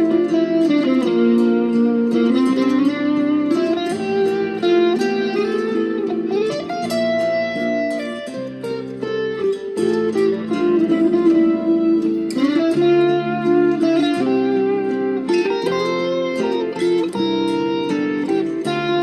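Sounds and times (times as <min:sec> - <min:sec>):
slow electric guitar melody: 0:00.0 - 0:19.0.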